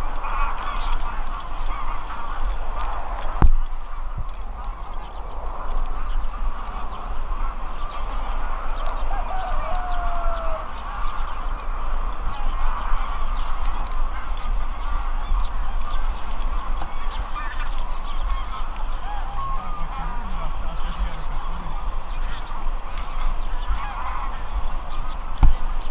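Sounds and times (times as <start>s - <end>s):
geese honking: 0.0s - 25.9s.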